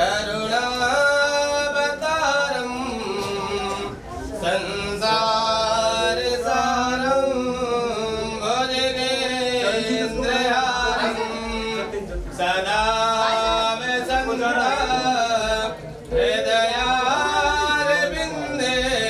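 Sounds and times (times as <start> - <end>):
man singing a chant: 0.0 - 19.0.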